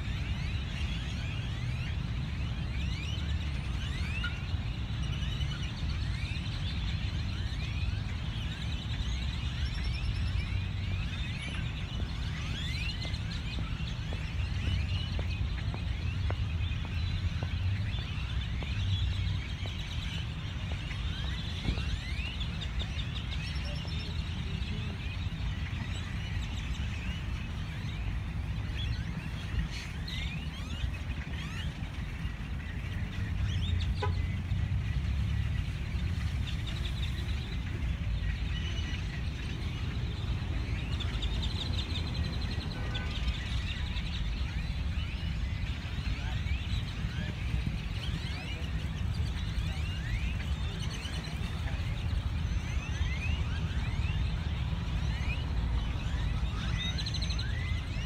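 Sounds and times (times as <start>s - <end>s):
flock of birds calling: 0.0s - 58.0s.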